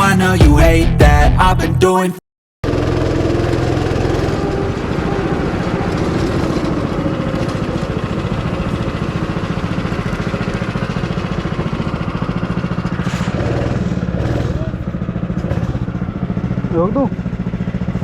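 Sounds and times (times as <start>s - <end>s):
small petrol engine running: 2.6s - 18.0s.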